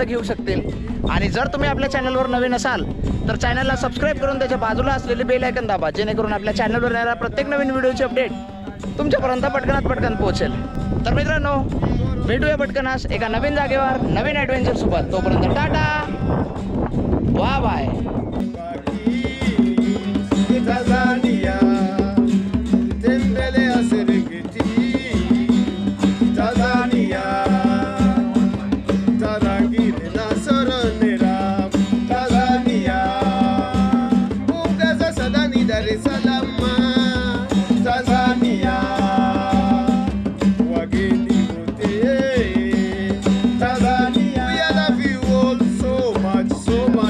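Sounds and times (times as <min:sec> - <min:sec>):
acoustic guitar: 0:00.0 - 0:47.0
hand drum: 0:00.0 - 0:47.0
man singing: 0:00.0 - 0:47.0.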